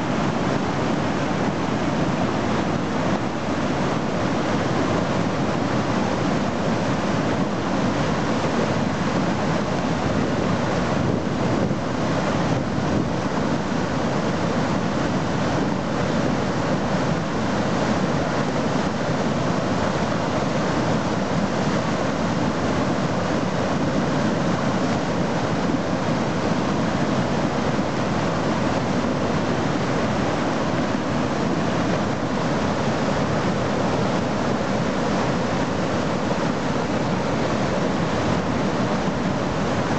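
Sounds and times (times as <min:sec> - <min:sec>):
river rushing through rapids: 0:00.0 - 0:39.9.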